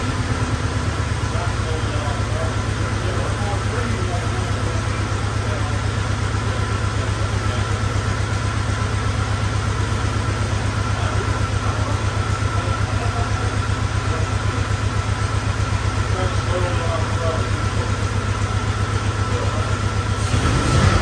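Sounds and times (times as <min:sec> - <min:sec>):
pickup engine idling: 0:00.0 - 0:21.0.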